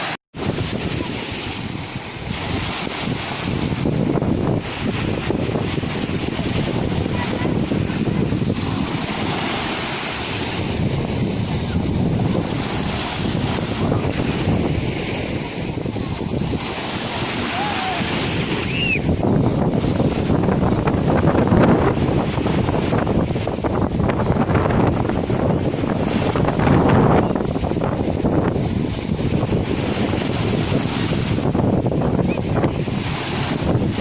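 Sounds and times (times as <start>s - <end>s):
sea waves washing in: 0.0s - 34.0s
wind buffeting microphone: 0.0s - 34.0s.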